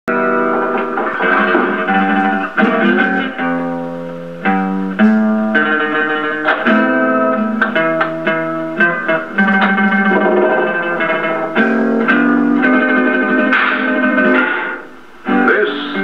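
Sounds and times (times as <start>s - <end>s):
plucked guitar notes: 0.1s - 16.0s.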